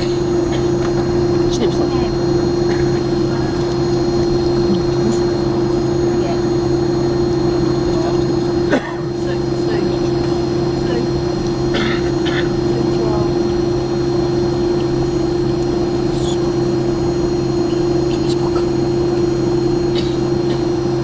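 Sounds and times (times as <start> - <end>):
aircraft cabin drone: 0.0 - 21.0.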